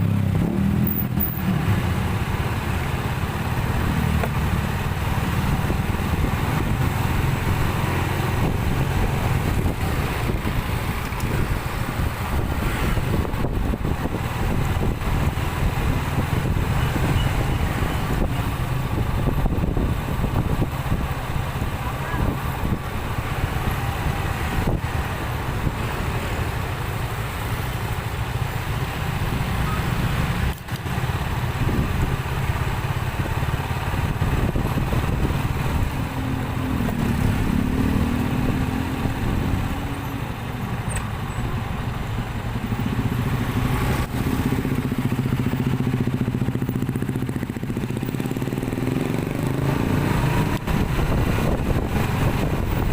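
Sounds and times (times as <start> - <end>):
motorcycle and car engines rumbling: 0.0 - 52.9.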